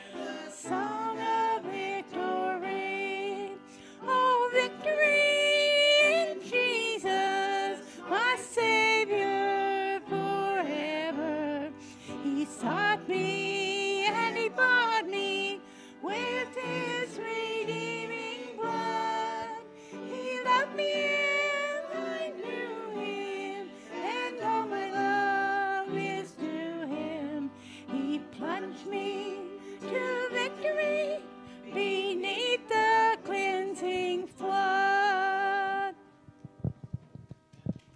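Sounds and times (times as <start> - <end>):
women's voices singing: 0.0 - 36.0.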